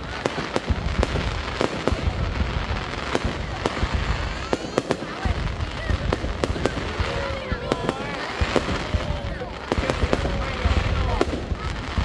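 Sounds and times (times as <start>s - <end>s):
distant explosions rumbling: 0.0s - 12.0s
fireworks bursting: 0.0s - 12.0s.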